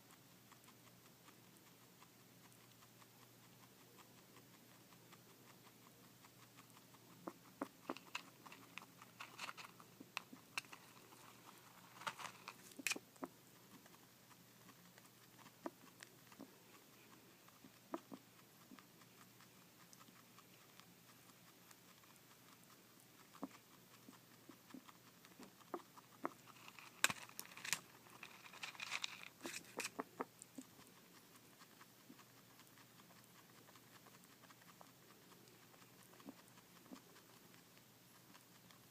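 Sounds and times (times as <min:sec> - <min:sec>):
pet chewing and crunching food: 0:00.0 - 0:38.9.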